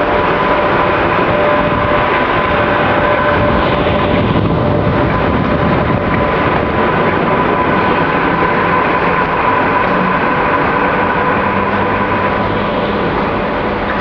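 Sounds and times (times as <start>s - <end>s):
electric locomotive running: 0.0s - 14.0s
steady tones: 0.0s - 14.0s.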